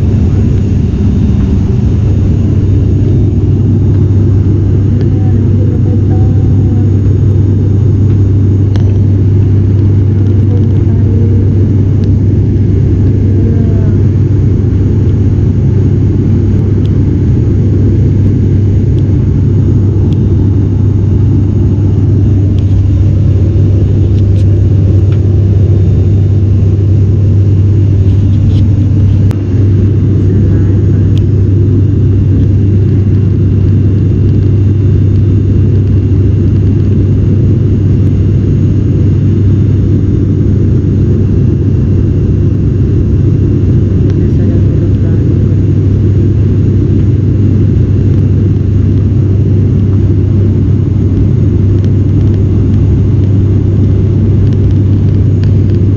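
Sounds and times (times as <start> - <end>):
constant rushing noise: 0.0 - 55.9
propeller engines low hum: 0.0 - 55.9.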